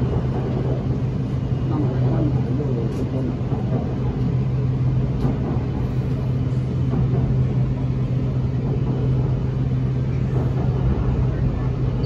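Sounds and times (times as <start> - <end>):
constant low hum: 0.0 - 12.0
train car rumble: 0.0 - 12.0.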